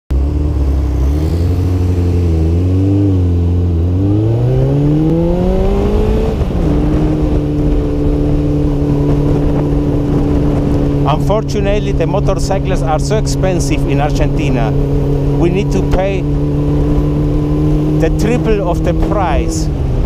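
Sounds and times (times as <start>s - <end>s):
motorcycle engine accelerating: 0.1s - 20.0s.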